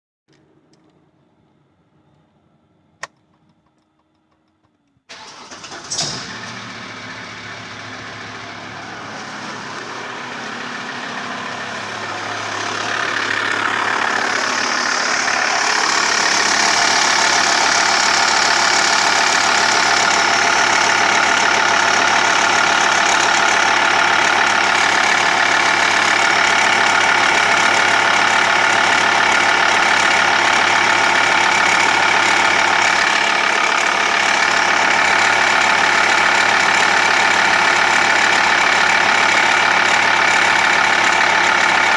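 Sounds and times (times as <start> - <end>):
diesel engine idling: 5.1 - 41.9
engine ticking: 5.1 - 41.9.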